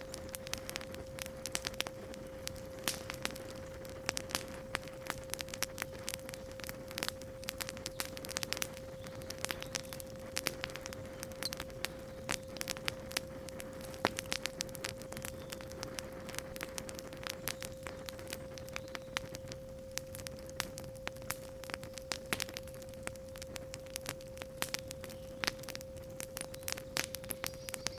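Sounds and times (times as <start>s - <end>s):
steady pure tone: 0.0s - 27.9s
wood fire crackling: 0.0s - 27.9s.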